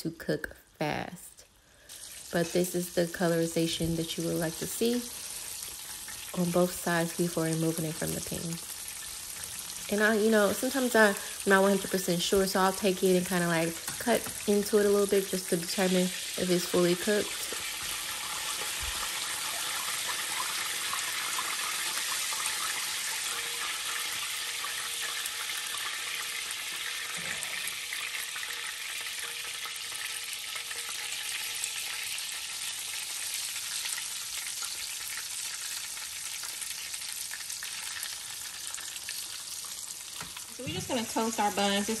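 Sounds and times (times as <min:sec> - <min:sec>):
chicken frying in oil: 0:01.8 - 0:42.0.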